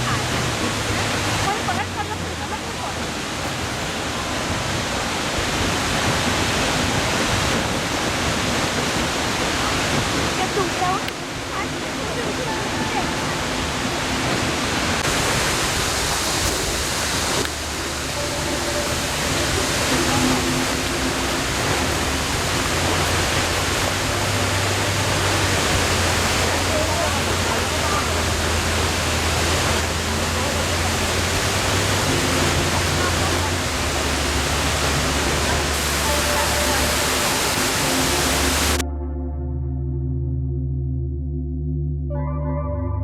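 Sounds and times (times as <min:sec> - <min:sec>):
waterfall rushing: 0:00.0 - 0:38.8.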